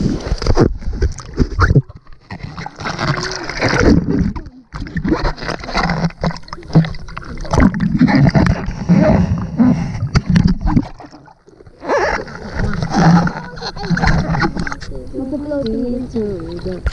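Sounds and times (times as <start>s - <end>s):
sea water sloshing and splashing: 0.0s - 16.9s.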